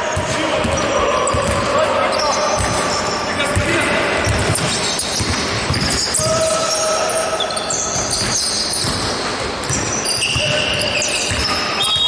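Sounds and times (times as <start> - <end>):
sneakers squeaking on floor: 0.0 - 12.0
basketball bouncing on court: 0.1 - 1.8, 2.5 - 6.8, 7.5 - 12.0.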